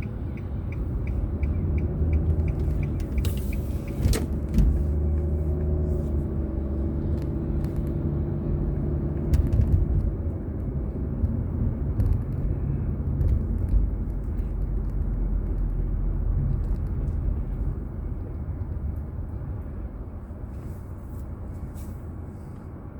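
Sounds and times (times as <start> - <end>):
car engine hum: 0.0 - 22.9
road noise inside car: 0.0 - 22.9.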